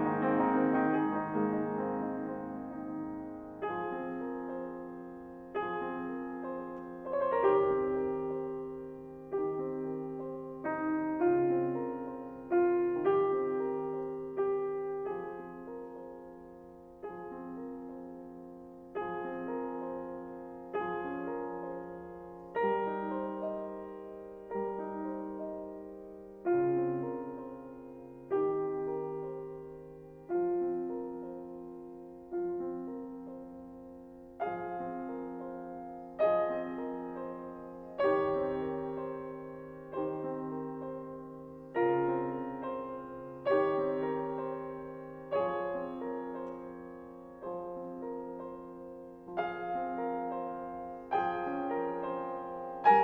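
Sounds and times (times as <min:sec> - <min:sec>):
piano chords ringing: 0:00.0 - 0:53.0.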